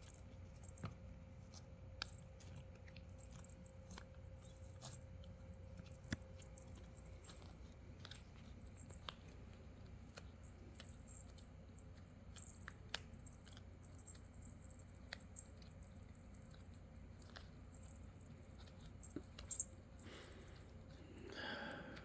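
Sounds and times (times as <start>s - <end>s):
low steady hum: 0.0s - 22.0s
puppy teeth clicking on strap: 0.0s - 22.0s.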